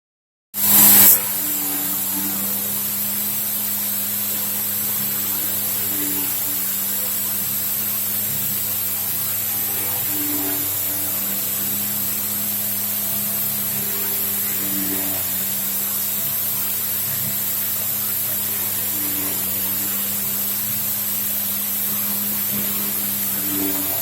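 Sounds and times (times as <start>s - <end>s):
cutting and coolant spray hiss: 0.6s - 24.0s
mill spindle hum: 0.6s - 24.0s.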